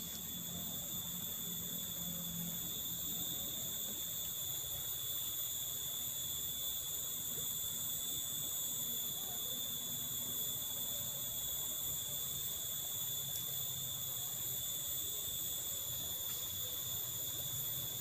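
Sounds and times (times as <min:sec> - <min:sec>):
shrill insect chorus: 0:00.0 - 0:18.0.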